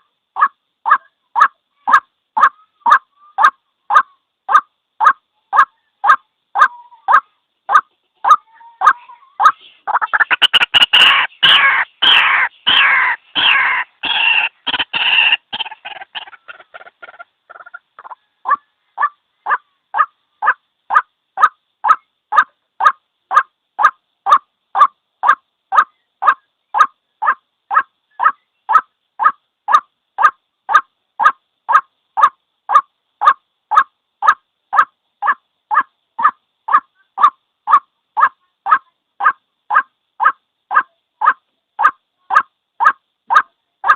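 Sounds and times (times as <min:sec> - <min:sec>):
waterhen calling: 0:00.0 - 0:43.9.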